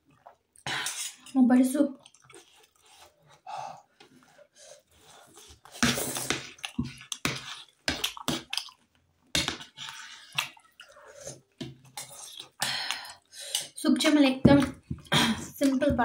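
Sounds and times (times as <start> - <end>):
wet chewing and sipping: 0.0 - 13.8.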